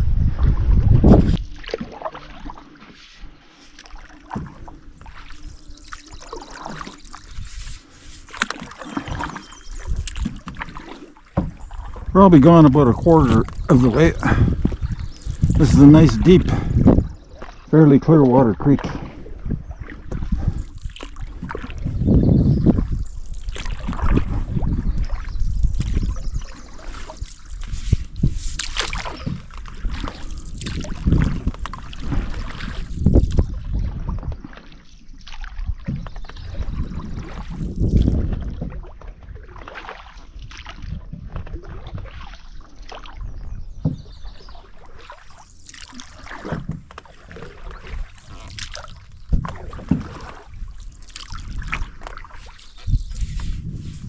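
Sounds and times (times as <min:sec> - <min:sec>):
low thuds on canoe: 0:00.0 - 0:03.0, 0:03.8 - 0:05.5, 0:08.3 - 0:17.7, 0:18.5 - 0:45.0, 0:45.7 - 0:54.0
paddle strokes in water: 0:00.0 - 0:54.0
water splashing and dripping: 0:00.3 - 0:54.0.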